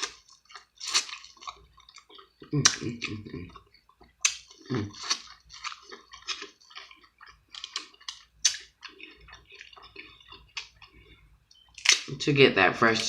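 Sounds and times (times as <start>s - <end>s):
close chewing with wet mouth clicks: 0.0s - 12.2s.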